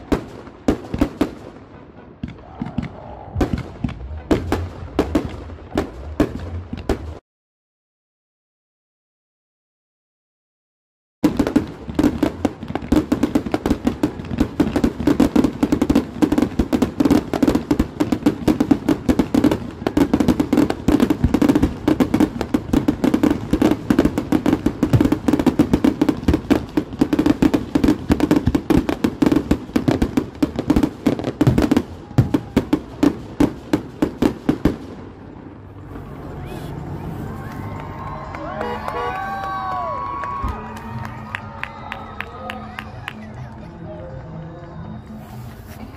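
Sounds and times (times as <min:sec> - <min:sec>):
fireworks crackling bangs: 0:00.0 - 0:07.2, 0:11.2 - 0:42.0.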